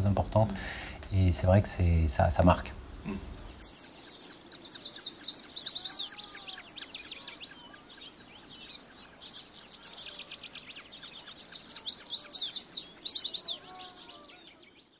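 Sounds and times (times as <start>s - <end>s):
birds chirping: 0.0s - 14.9s
lower whistled bird notes: 2.9s - 14.9s.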